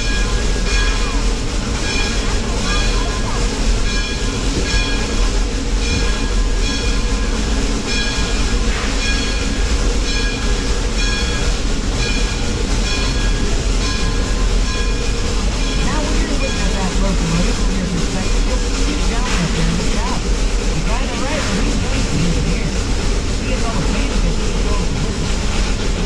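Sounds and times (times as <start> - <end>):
train rumbling and rattling: 0.0 - 26.0.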